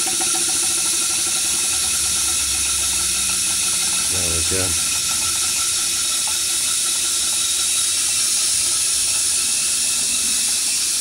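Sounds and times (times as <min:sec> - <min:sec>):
steam engine hissing: 0:00.0 - 0:11.0.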